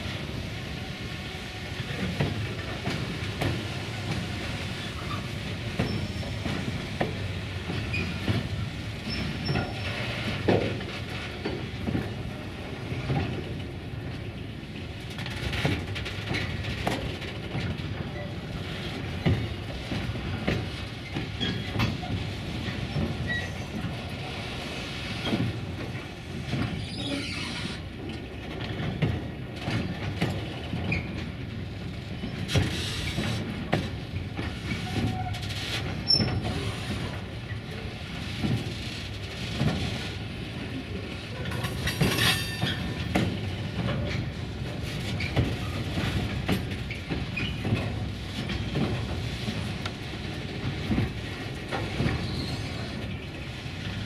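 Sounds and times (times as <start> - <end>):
freight train rumble: 0.0 - 54.0
train wheels knocking on rail joints: 1.1 - 13.8, 14.9 - 24.1, 24.7 - 40.4, 41.4 - 53.0.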